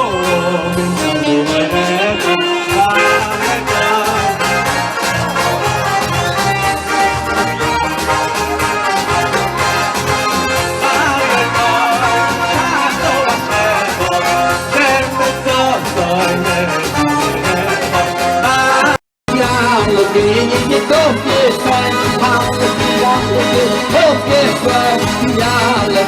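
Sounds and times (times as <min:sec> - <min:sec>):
lively instrumental music: 0:00.0 - 0:26.0.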